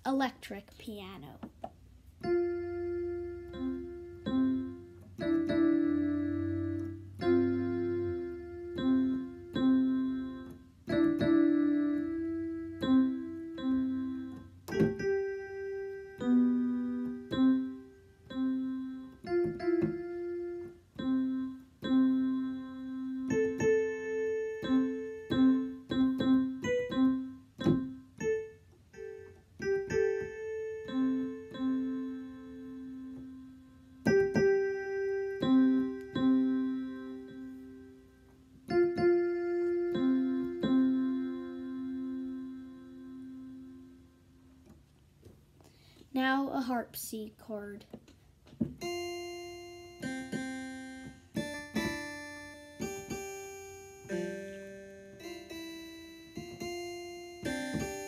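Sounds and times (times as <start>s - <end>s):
electric piano tune: 1.5s - 44.9s, 48.6s - 58.0s.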